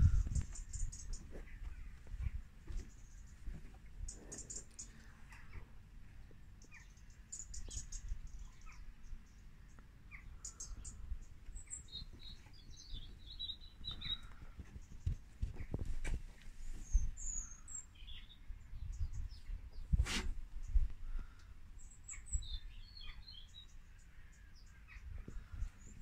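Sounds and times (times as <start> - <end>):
birds chirping: 0.0 - 15.8, 16.7 - 20.0, 20.6 - 26.0.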